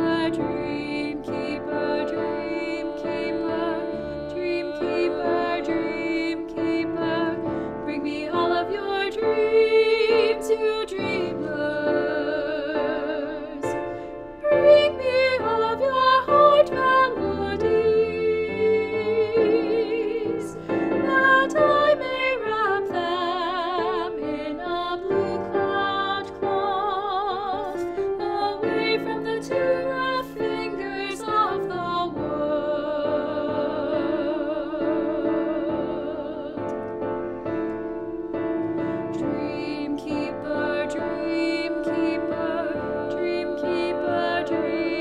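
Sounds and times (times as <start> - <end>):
choir singing with vibrato: 0.0 - 36.8, 38.8 - 45.0
piano accompaniment: 0.0 - 45.0.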